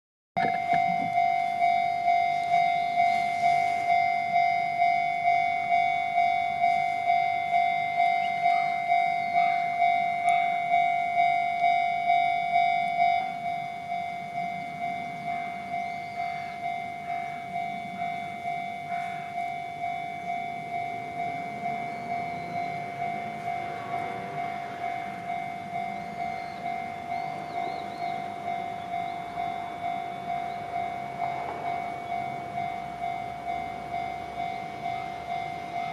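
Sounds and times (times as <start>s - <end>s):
approaching train rumble: 0.4s - 35.9s
level-crossing bell clanging: 0.4s - 35.9s.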